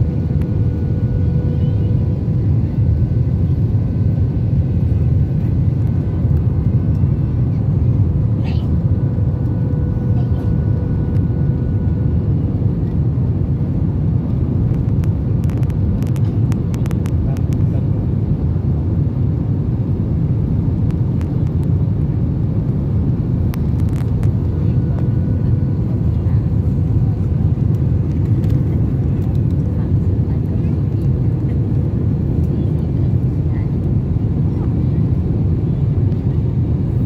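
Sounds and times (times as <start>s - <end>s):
airliner engines and airflow rumble: 0.0s - 37.0s.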